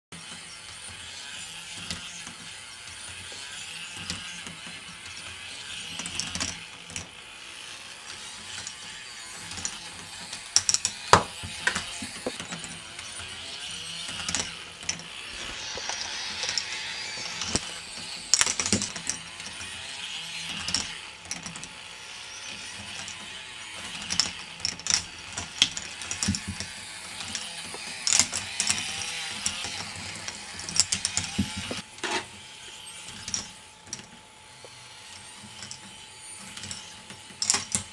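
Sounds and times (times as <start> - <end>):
plastic parts clattering whir: 0.2 - 37.9.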